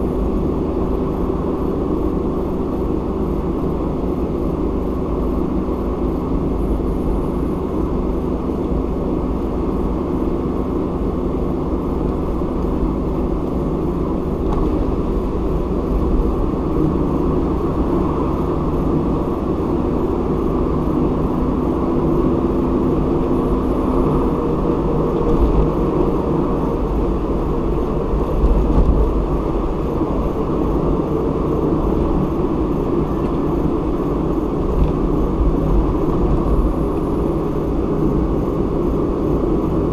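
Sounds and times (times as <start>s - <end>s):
muffled car engine and road noise: 0.0s - 39.9s.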